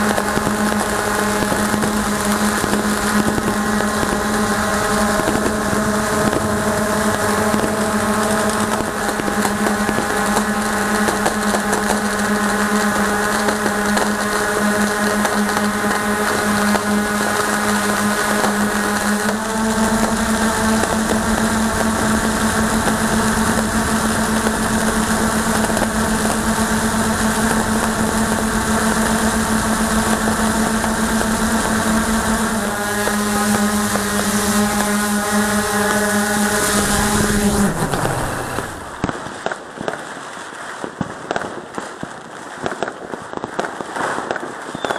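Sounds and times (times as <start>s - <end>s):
drone propellers humming: 0.0s - 39.5s
distant fireworks popping: 0.0s - 44.9s.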